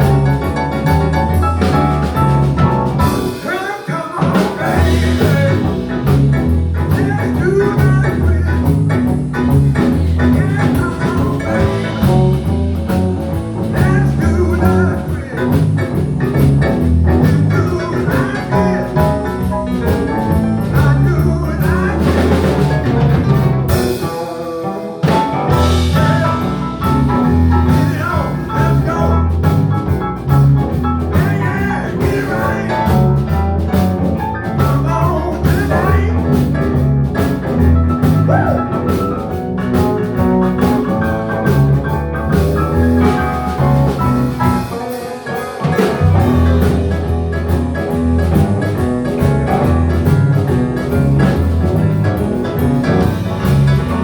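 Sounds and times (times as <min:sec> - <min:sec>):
blues band playing: 0:00.0 - 0:54.0.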